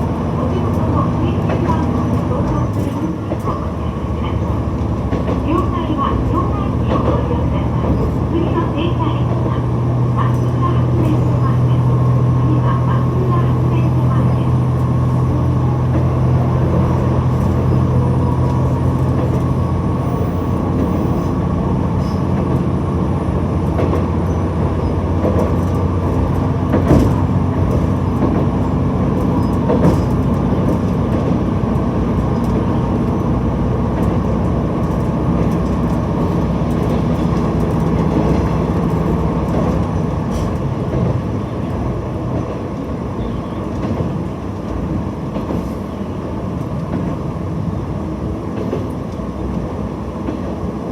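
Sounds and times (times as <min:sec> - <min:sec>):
railcar engine drone: 0:00.0 - 0:50.9
wheel and rail rumble: 0:00.0 - 0:50.9.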